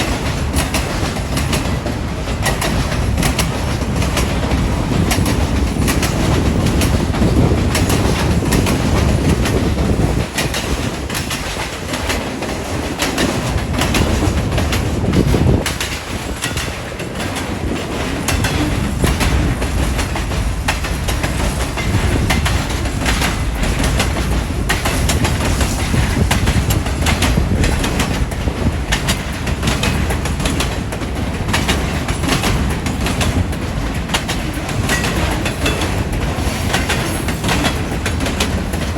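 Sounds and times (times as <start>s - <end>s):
heavy low train rumble: 0.0s - 38.9s
train wheels clicking on rail joints: 0.0s - 38.9s
wind buffeting microphone: 0.0s - 38.9s.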